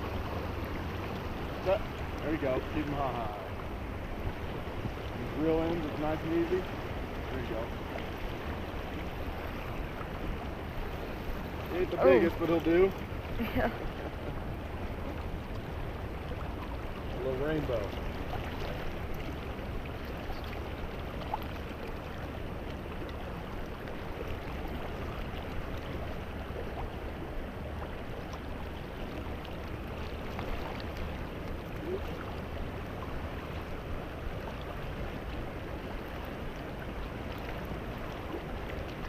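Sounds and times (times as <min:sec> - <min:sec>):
stream water rippling: 0:00.0 - 0:39.0.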